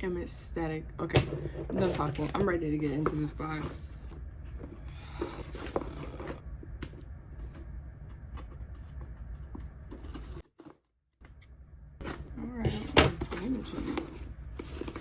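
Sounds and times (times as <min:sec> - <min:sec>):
low steady hum: 0:00.0 - 0:10.4, 0:11.2 - 0:15.0.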